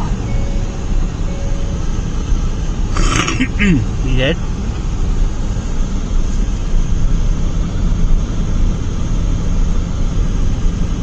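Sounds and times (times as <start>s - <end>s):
car cabin road and engine noise: 0.0s - 11.0s.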